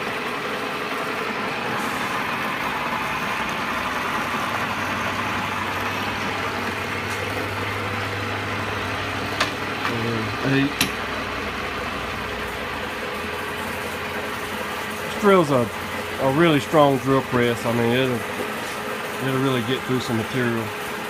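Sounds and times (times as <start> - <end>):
drill press motor whirring: 0.0 - 21.0.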